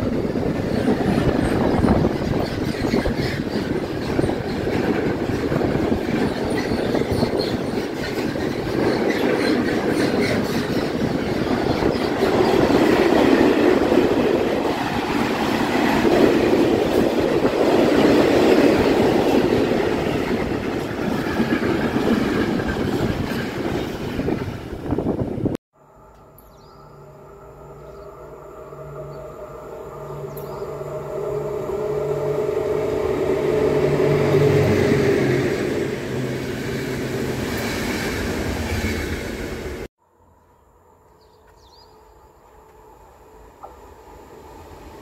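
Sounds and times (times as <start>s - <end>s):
freight train rumbling past: 0.0s - 39.9s, 41.8s - 45.0s.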